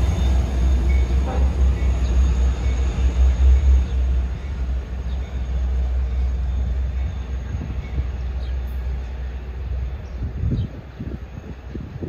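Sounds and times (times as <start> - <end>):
locomotives rumbling: 0.0 - 11.7.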